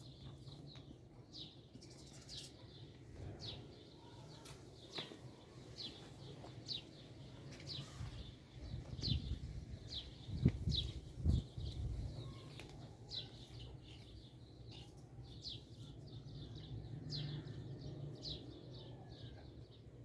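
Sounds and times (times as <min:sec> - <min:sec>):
small bird chirping: 0:00.0 - 0:19.4.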